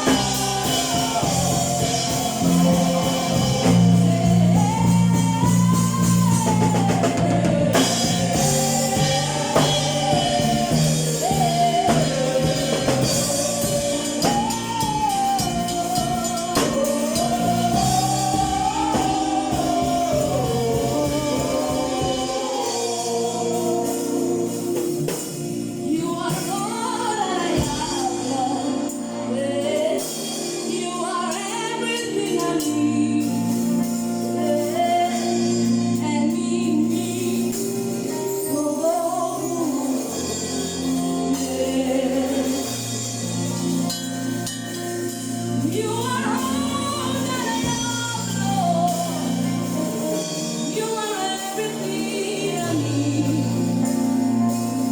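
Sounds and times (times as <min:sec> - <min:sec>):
choir singing: 0:00.0 - 0:54.9
instrumental accompaniment: 0:00.0 - 0:54.9.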